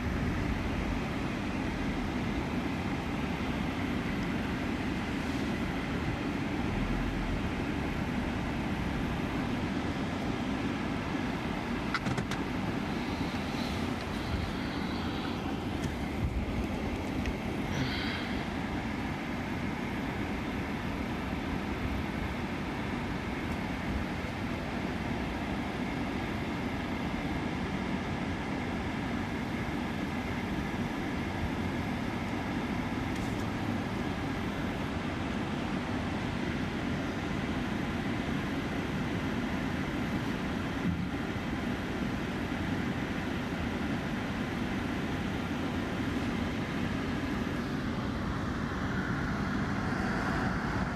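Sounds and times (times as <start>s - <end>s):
vehicle road and engine rumble: 0.0s - 50.9s.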